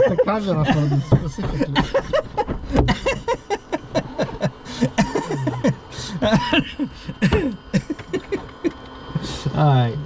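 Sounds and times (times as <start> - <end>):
people laughing: 0.0 - 9.5.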